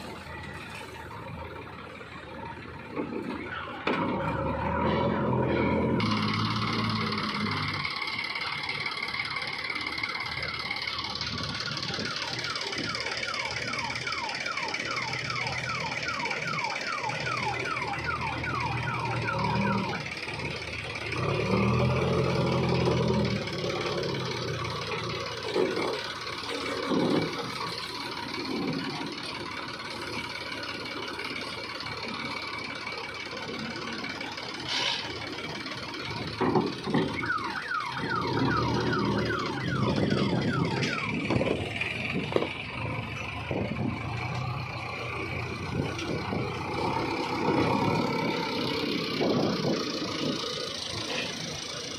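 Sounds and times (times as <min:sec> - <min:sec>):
vehicle engine running: 0:00.0 - 0:51.9
electronic alarm warble: 0:03.4 - 0:51.9.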